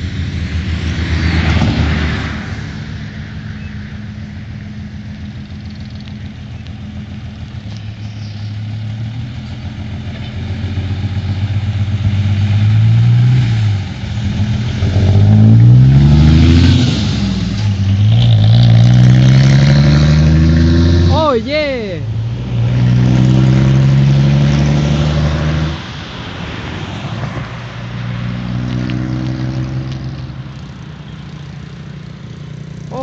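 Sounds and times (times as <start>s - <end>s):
truck diesel engine accelerating: 0.0s - 33.0s.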